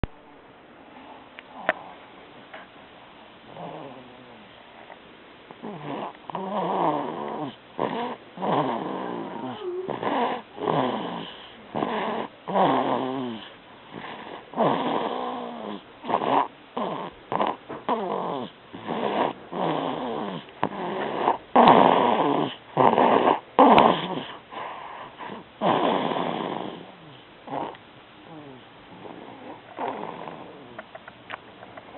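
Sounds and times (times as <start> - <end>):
baby snoring: 1.5 - 2.0, 3.5 - 4.5, 5.6 - 30.9.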